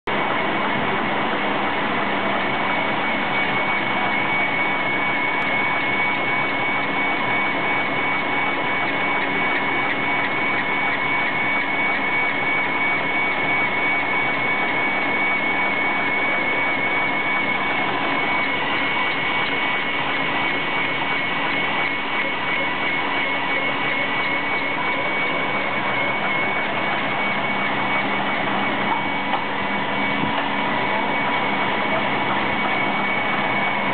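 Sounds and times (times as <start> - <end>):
machine running noise: 0.0 - 33.9
high machine whine: 0.1 - 33.9.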